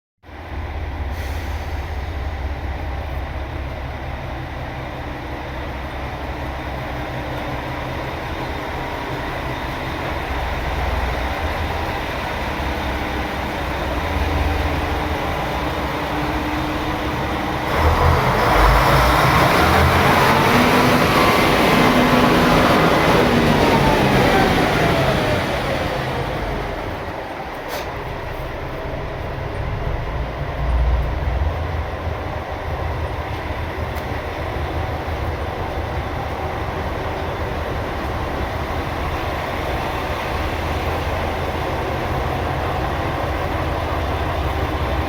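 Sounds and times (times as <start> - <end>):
train rumbling on rails: 0.2 - 45.0.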